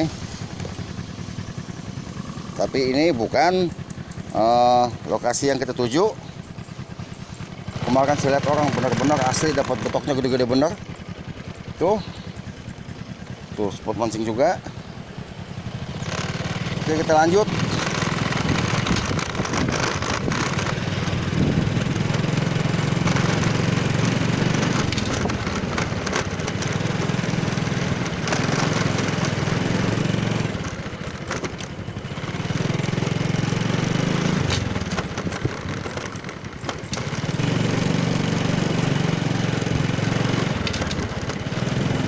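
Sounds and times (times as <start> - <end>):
motor scooter engine running: 0.0 - 42.0
wind and road noise: 0.0 - 42.0.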